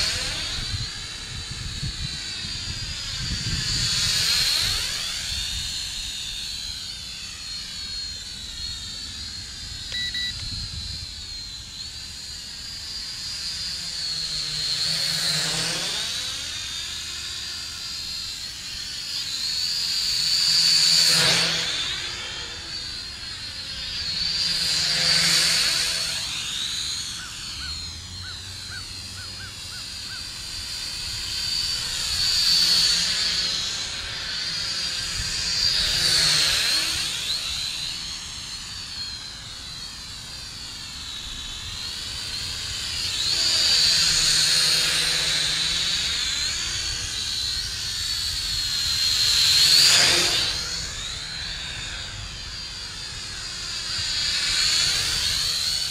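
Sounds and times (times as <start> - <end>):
toy drone propellers buzzing: 0.0 - 55.9.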